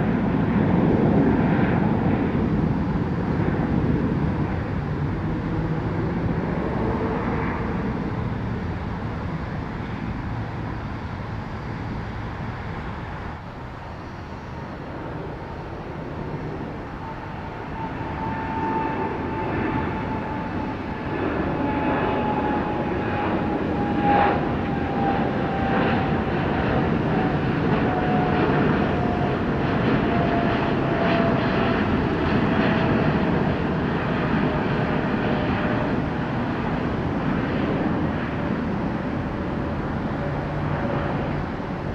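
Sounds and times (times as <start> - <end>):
jet engines roaring: 0.0 - 41.9
turbine whine: 0.0 - 41.9.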